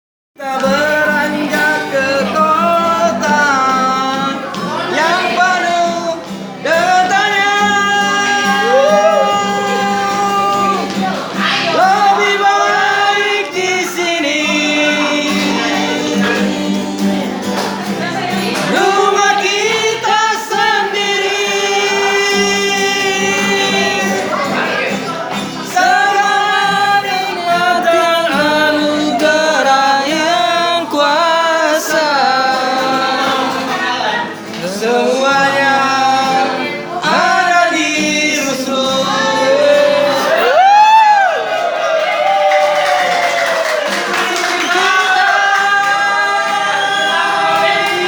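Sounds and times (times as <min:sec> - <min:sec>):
man singing: 0:00.4 - 0:17.6, 0:18.2 - 0:41.3, 0:44.0 - 0:48.0
guitar accompaniment: 0:00.4 - 0:48.0.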